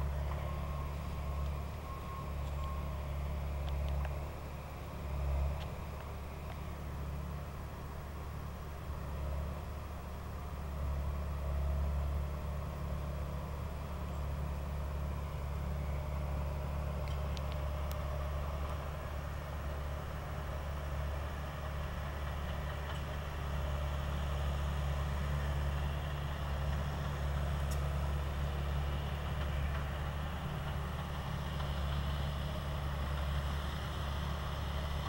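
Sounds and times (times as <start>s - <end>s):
bulldozer engine running: 0.0s - 35.0s.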